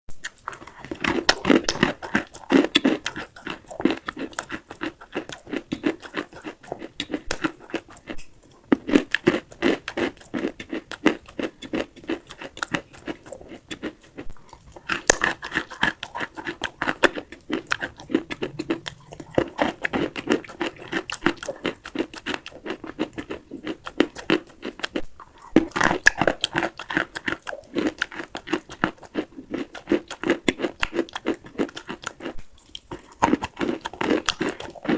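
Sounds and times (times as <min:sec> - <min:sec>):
gritty crunching chewing: 0:00.2 - 0:34.9.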